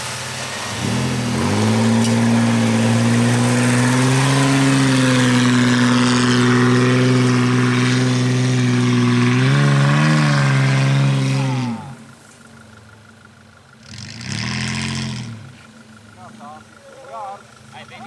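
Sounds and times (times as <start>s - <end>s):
off-road engine at high revs: 0.0s - 18.0s.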